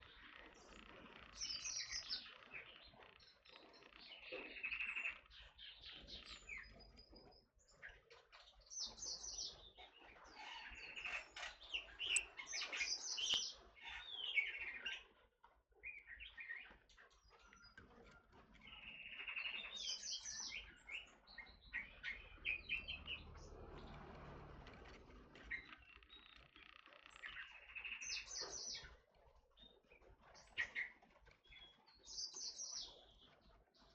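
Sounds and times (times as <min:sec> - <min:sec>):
bird singing: 0:00.0 - 0:33.9.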